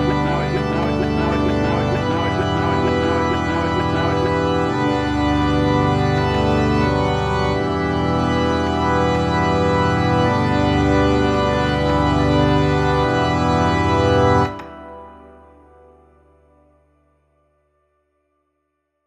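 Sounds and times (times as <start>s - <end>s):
minimalist music of sustained chords: 0.0s - 18.5s.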